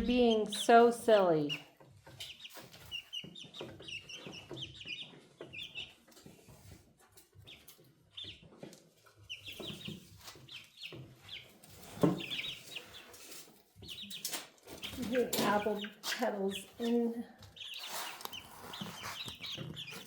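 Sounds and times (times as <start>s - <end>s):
chicks cheeping: 0.0s - 20.0s.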